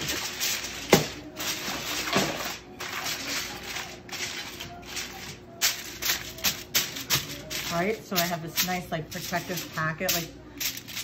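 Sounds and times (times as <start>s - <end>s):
pan lining crinkling and rustling: 0.0s - 11.0s.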